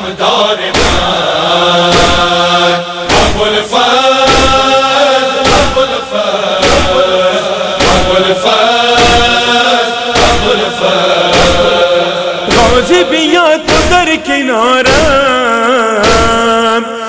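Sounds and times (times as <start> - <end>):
rhythmic chest-beating: 0.0 - 16.9
men chanting in unison: 0.0 - 17.0.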